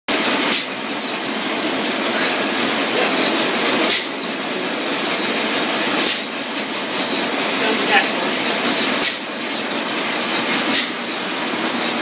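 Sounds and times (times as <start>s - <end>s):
gas engine mechanical clatter: 0.1s - 12.0s.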